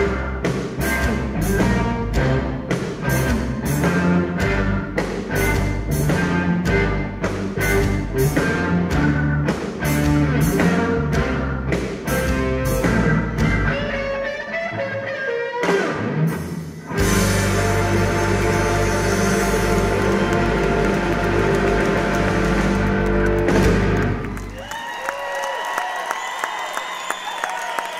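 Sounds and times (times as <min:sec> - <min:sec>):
blues band playing: 0:00.0 - 0:24.6.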